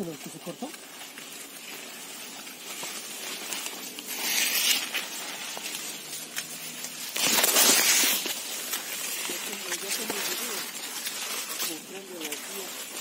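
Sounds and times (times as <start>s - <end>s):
corn leaves rustling and scraping: 0.0s - 13.0s.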